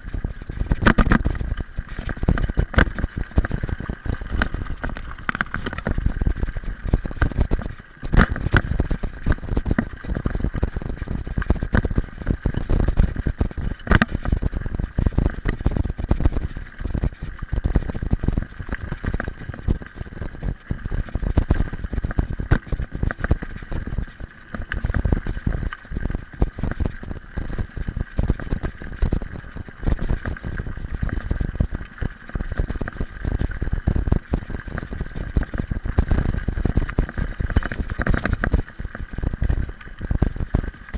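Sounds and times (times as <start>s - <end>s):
bike rattling and knocking: 0.0s - 40.9s.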